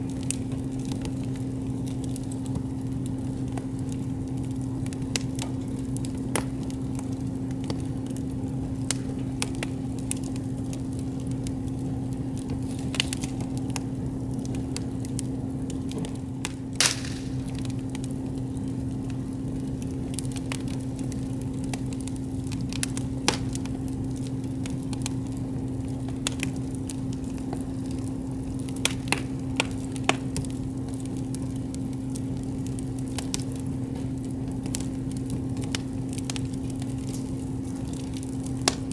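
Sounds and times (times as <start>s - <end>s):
steady low hum: 0.0s - 32.1s
campfire crackling and popping: 0.0s - 38.9s.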